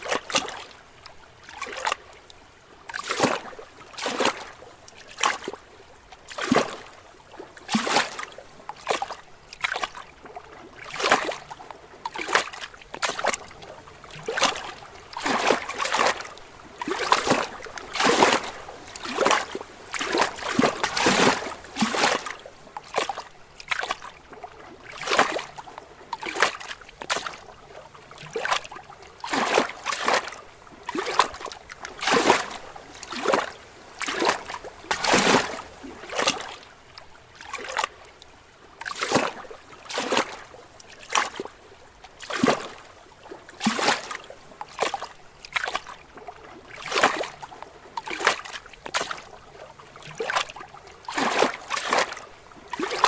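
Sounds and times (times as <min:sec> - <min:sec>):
lake waves lapping against rocks: 0:00.0 - 0:53.0.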